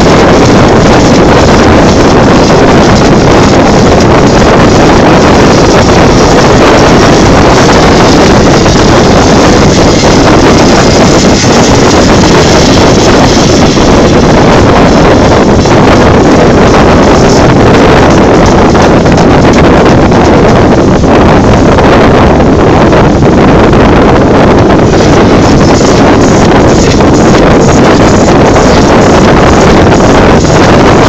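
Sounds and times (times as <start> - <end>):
boat engine running: 0.0 - 31.0
wind noise on microphone: 0.0 - 31.0.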